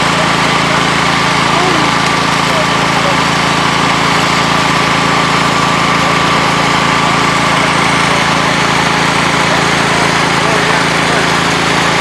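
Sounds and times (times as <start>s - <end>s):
engine drone: 0.0s - 12.0s
high engine whine: 0.0s - 12.0s.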